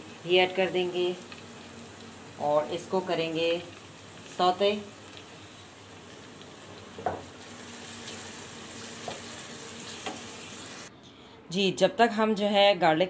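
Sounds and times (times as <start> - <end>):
onions sizzling in hot oil: 0.0 - 10.9.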